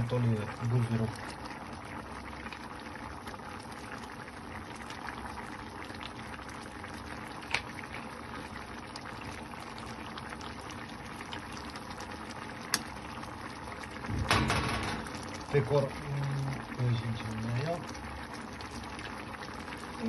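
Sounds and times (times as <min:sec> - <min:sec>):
broth bubbling in a pan: 0:00.0 - 0:20.0.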